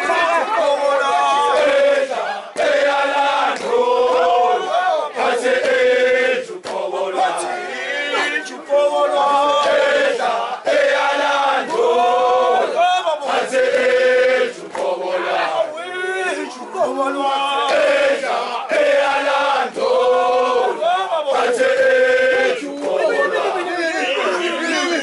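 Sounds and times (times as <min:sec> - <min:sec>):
men chanting and singing: 0:00.0 - 0:25.0.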